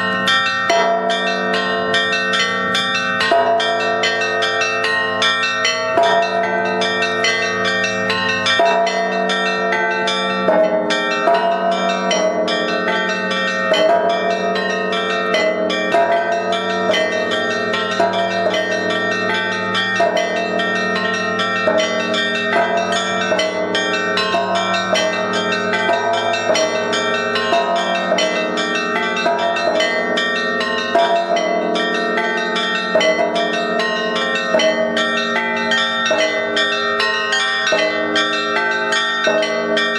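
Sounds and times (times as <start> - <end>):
deep church bells ringing: 0.0 - 39.9
small church bells striking: 0.0 - 39.9.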